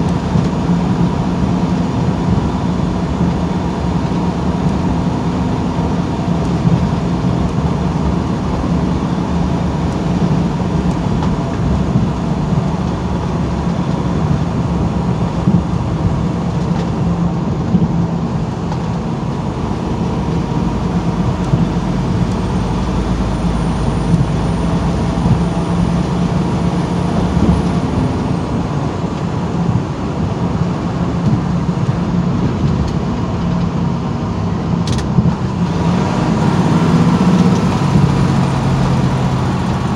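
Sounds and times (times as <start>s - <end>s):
diesel engine hum: 0.0s - 39.9s
tyre and road noise: 0.0s - 39.9s.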